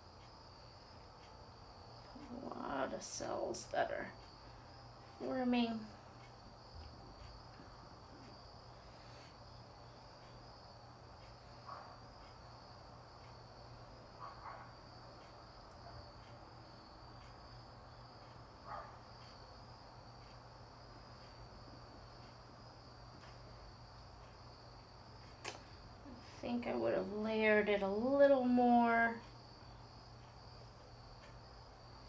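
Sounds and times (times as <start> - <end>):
crickets and cicadas trilling: 0.0 - 32.0.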